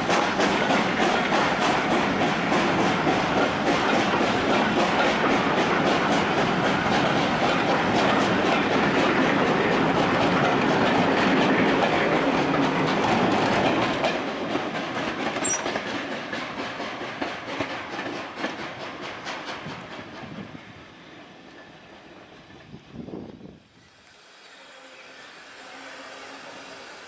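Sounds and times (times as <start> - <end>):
train wheels clattering over rail joints: 0.0 - 22.8.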